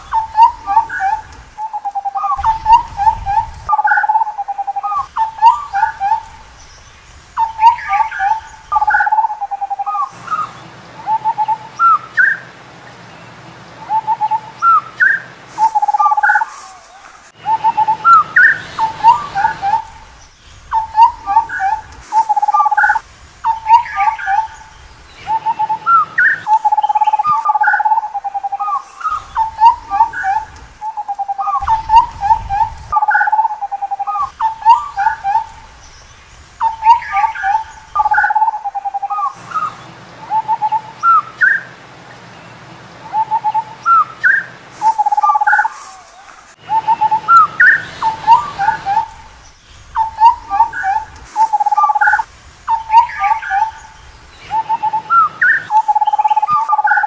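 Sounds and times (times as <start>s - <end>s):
bird whistled calls: 0.0s - 12.6s, 13.8s - 41.8s, 43.0s - 57.0s.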